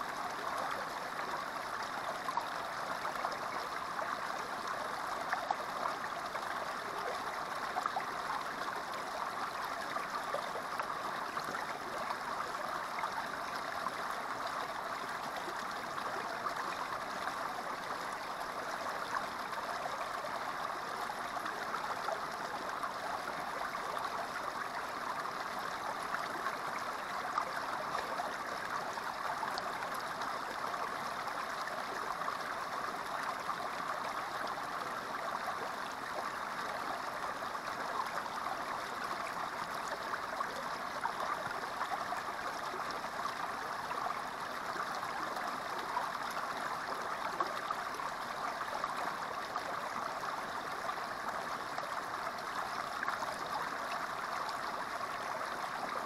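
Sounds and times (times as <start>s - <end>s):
creek water splashing and babbling: 0.0s - 56.0s.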